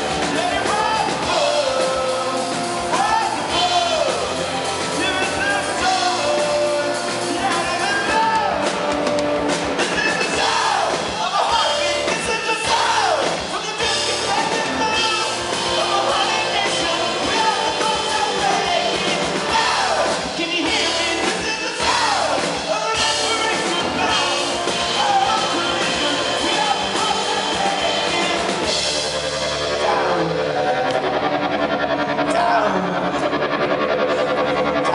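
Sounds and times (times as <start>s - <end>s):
man singing lead: 0.0s - 31.3s, 32.0s - 34.9s
live rock band playing: 0.0s - 34.9s.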